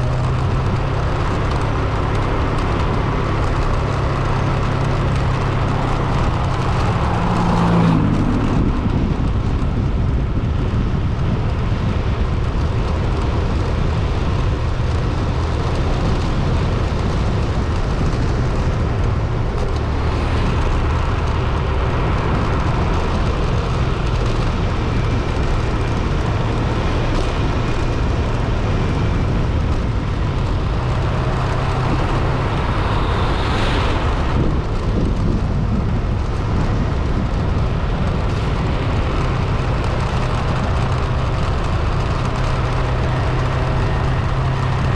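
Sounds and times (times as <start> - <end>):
road and wind noise: 0.0 - 44.9
vehicle engine drone: 0.0 - 44.9.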